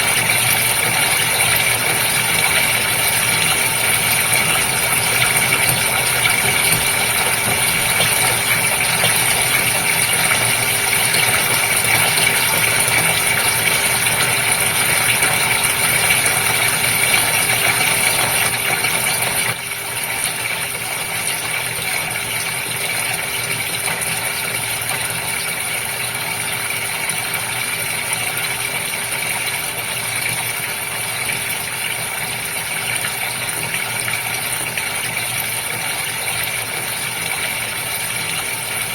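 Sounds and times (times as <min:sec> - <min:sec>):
aquarium pump motor hum: 0:00.0 - 0:38.9
running water: 0:00.0 - 0:38.9.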